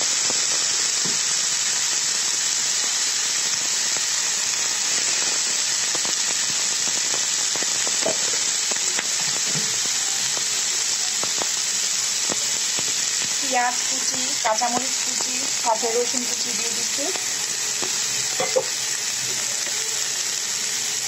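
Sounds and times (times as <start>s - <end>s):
food sizzling in hot oil: 0.0s - 21.0s
oil ticking and popping: 0.1s - 21.0s.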